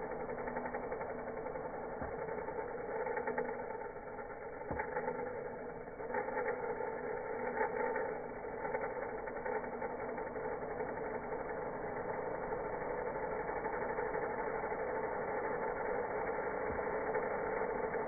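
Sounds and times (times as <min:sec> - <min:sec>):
slowed vacuum cleaner drone: 0:00.0 - 0:18.0.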